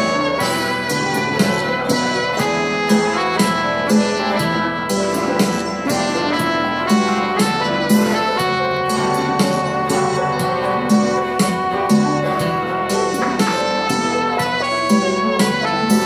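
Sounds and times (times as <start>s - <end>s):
electronic keyboard melody over chords: 0.0s - 16.0s.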